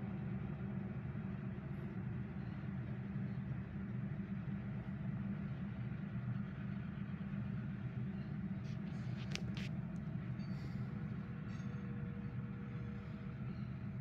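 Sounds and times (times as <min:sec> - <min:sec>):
hopper cars rumbling: 0:00.0 - 0:14.0.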